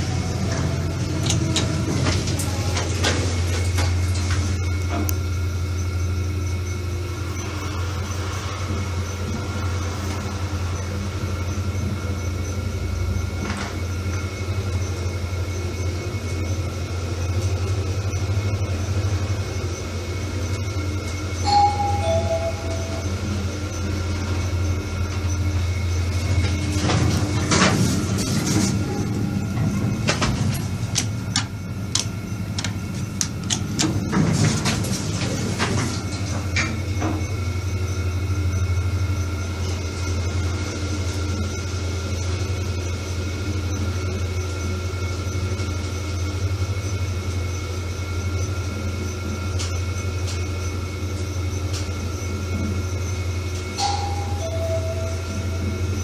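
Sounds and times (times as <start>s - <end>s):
lift car humming: 0.0s - 47.8s, 48.6s - 56.0s.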